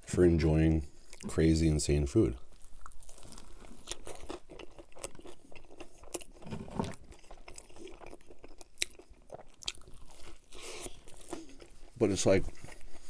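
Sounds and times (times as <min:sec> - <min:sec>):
chewing crunchy sandwich: 0:00.9 - 0:13.0.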